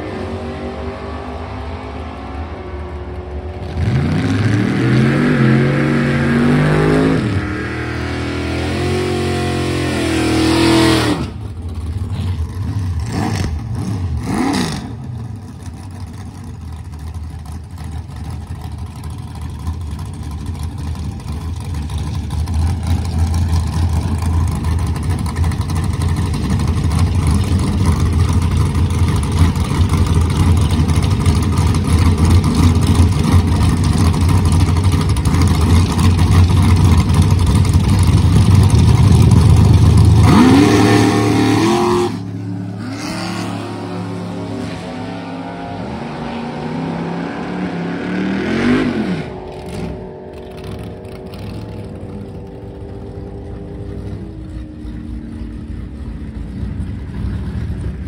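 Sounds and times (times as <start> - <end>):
drag car engine revving: 0.0 - 58.0.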